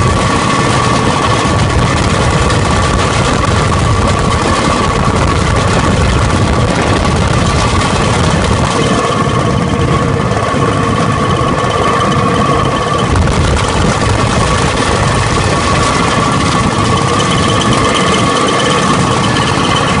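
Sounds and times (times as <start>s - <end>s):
rail trolley engine rumble and whine: 0.0s - 20.0s.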